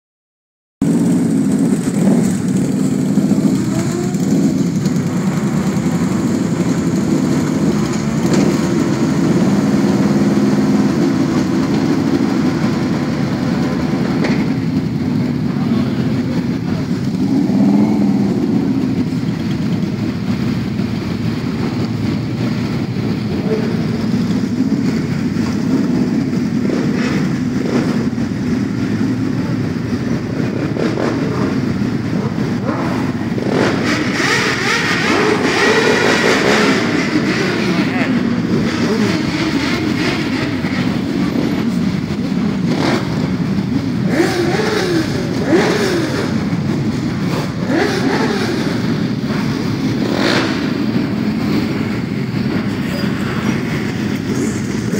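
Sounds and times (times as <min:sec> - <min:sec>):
engine revving: 0:00.8 - 0:20.6, 0:21.2 - 0:54.9
motorcycle engines idling: 0:00.8 - 0:54.9.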